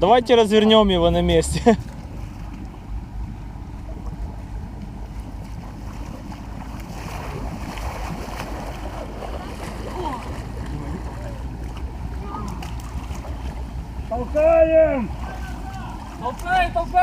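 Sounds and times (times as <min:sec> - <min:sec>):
engine running low and steady: 0:00.0 - 0:17.0
water churning and splashing: 0:00.0 - 0:17.0.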